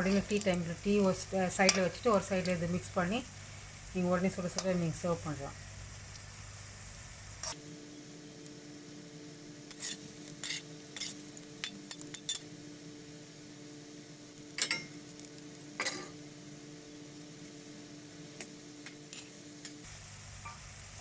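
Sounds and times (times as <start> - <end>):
faint oil sizzle: 0.0 - 21.0
steady hum: 0.0 - 21.0.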